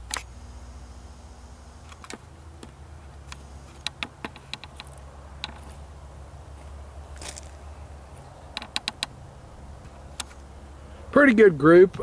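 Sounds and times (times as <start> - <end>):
faint zoom motor hum: 0.0 - 11.2.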